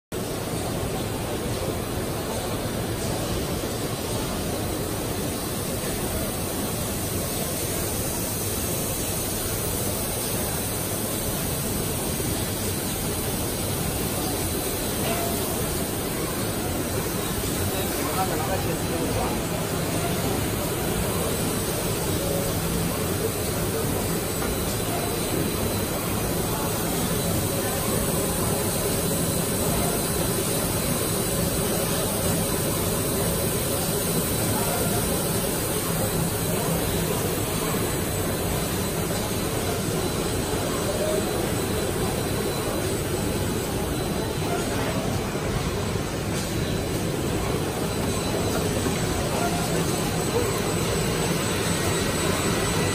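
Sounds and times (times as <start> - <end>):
machine hum with roller hiss: 0.2 - 52.9.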